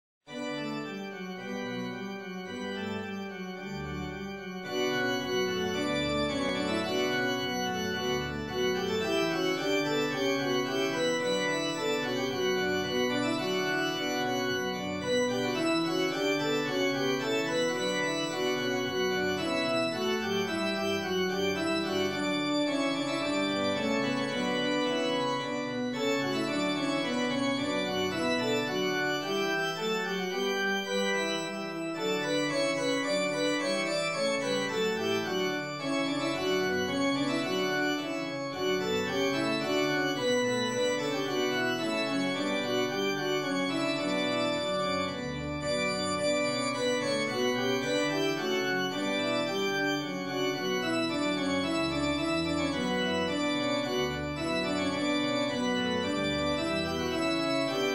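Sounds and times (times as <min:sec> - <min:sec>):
organ music with held chords: 0:00.3 - 0:57.9.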